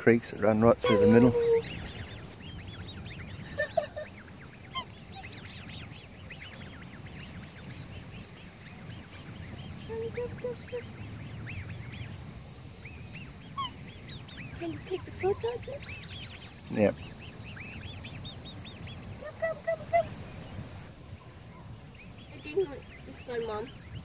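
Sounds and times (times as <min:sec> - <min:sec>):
cygnets peeping: 0:00.0 - 0:24.0
short lower bird calls: 0:00.5 - 0:24.0.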